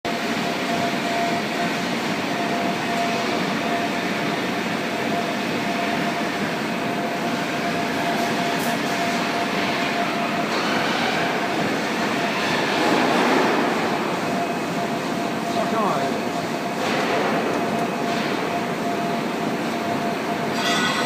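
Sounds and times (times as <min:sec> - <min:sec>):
industrial machinery running: 0:00.1 - 0:21.0
mid-pitched machine whine: 0:00.1 - 0:21.0.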